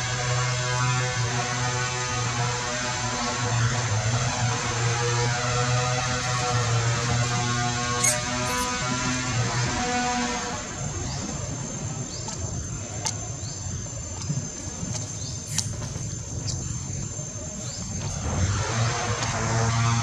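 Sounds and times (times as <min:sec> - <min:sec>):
high-pitched insect drone: 0:00.0 - 0:20.0
low outdoor rumble: 0:00.0 - 0:20.0.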